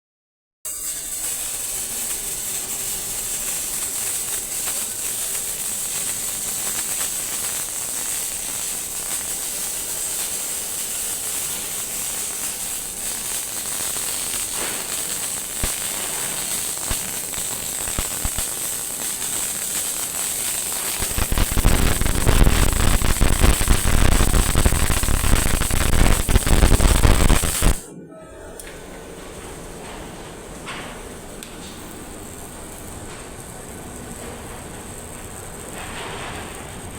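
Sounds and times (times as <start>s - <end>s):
welding arc crackling and hissing: 0.7s - 27.9s, 30.7s - 36.9s.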